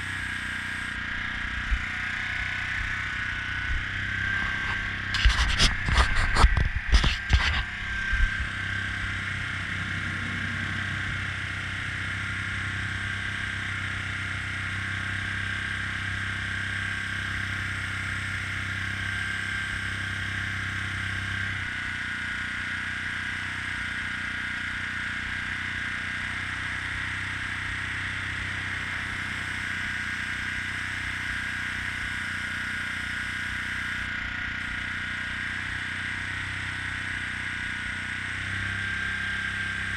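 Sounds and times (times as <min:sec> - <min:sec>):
air compressor whine and hum: 0:00.0 - 0:39.9.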